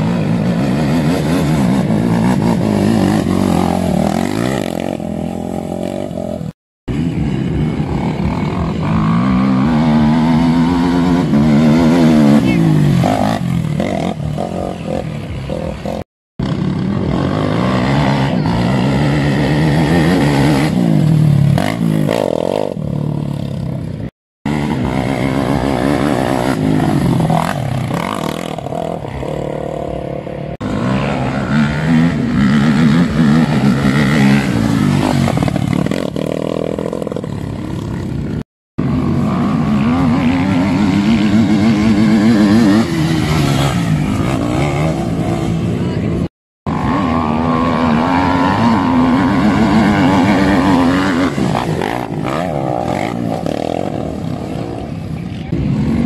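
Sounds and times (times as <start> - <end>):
quad engines revving: 0.0 - 56.0.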